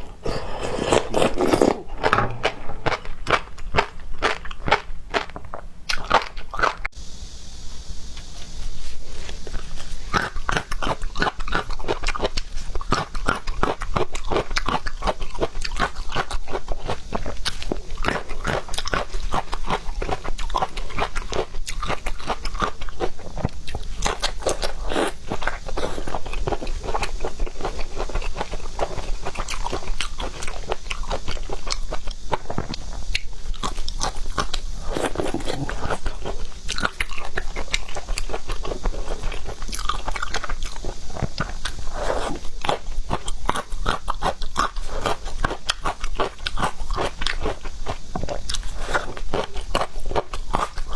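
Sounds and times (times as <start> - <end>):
person chewing seafood crunching: 0.0 - 6.9, 10.0 - 50.9.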